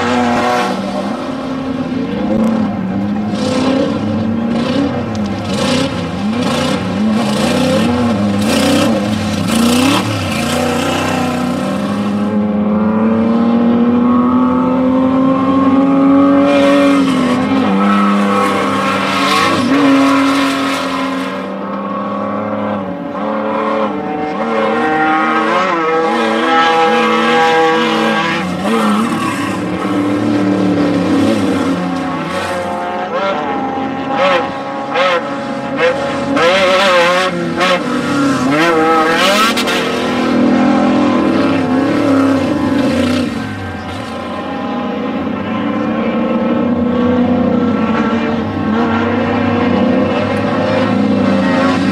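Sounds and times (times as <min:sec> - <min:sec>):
race vehicle engines revving: 0:00.0 - 0:51.9.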